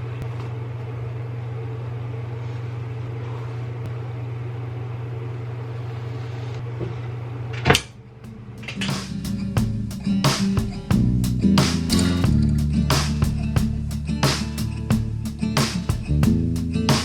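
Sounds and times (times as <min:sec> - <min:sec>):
mechanical hum: 0:00.0 - 0:16.9.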